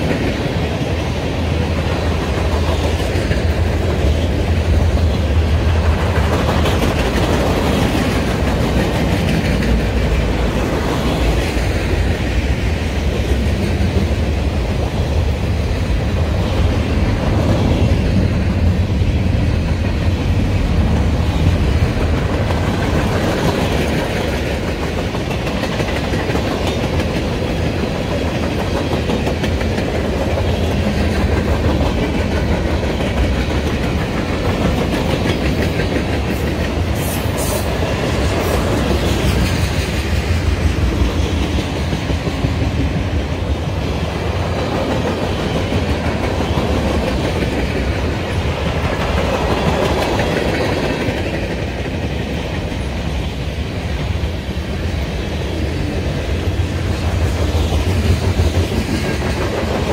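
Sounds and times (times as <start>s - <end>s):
clickety-clack of train wheels: 0.0s - 59.9s
train wheels rumbling on rail: 0.0s - 59.9s.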